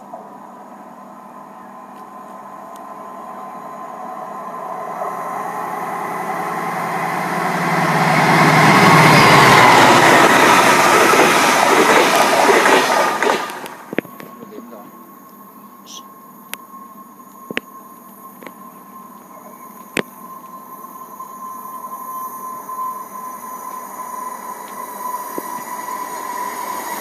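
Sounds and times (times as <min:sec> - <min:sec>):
wheels rushing on rails: 0:00.0 - 0:15.6, 0:18.0 - 0:27.0
train passing: 0:00.0 - 0:27.0.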